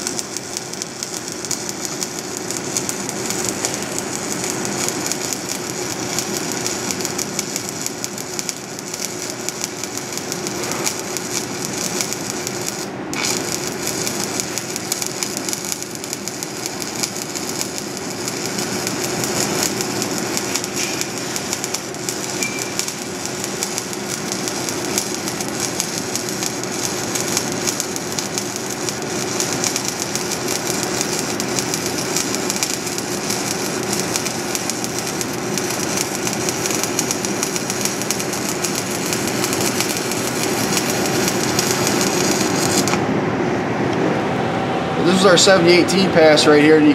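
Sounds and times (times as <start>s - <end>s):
welding arc crackling hiss: 0.0s - 43.1s.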